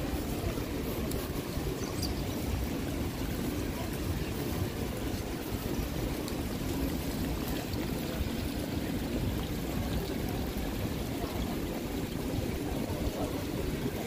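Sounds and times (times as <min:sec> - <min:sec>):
rain on wet paving: 0:00.0 - 0:14.0.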